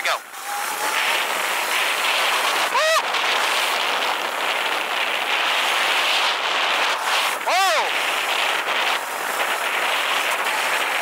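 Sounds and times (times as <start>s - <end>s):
wind and tyre noise: 0.0s - 11.0s
electric motor whine: 0.2s - 11.0s.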